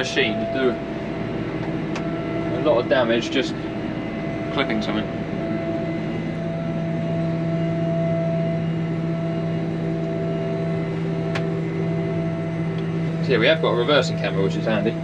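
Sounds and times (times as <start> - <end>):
harvester engine droning: 0.0 - 15.0.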